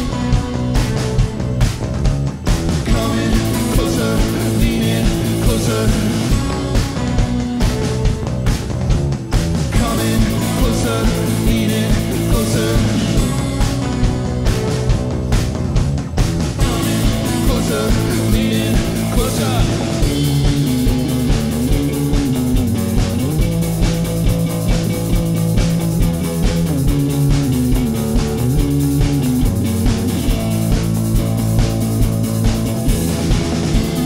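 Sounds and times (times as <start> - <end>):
electric guitar: 0.0 - 34.0
steady drum beat: 0.0 - 34.0.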